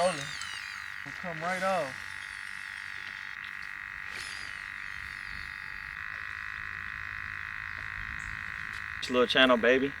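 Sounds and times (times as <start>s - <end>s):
frogs trilling: 0.0s - 10.0s
lower-pitched frog calls: 0.0s - 10.0s.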